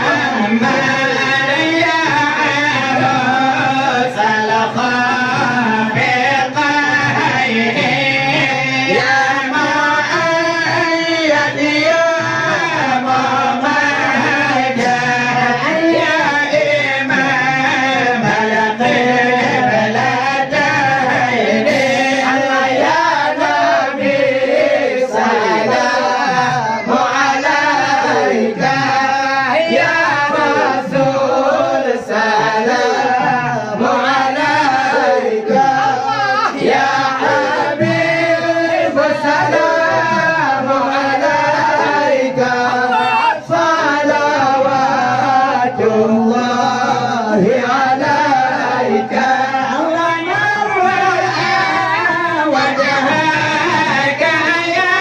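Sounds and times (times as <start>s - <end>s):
men chanting into microphones: 0.0s - 55.0s.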